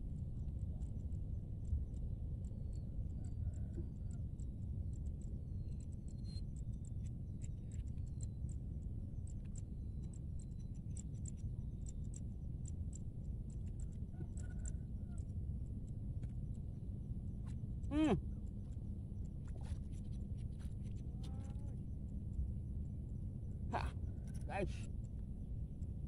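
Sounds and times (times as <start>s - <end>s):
steady low rumble: 0.0s - 14.1s, 14.8s - 26.0s.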